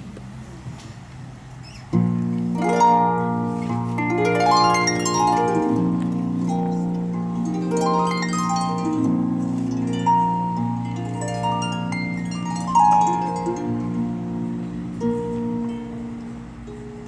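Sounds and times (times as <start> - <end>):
harp playing a waltz: 1.9 - 17.0.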